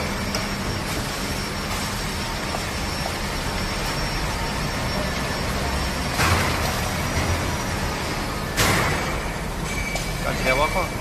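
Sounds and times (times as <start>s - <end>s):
production-line machinery running: 0.0s - 11.0s.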